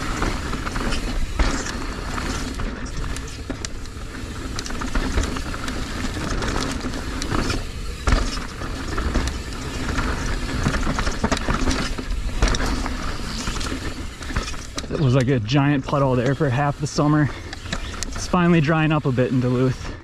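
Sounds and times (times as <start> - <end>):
bike rattling and knocking: 0.0 - 19.8
bike tyres rumbling on dirt: 0.0 - 20.0.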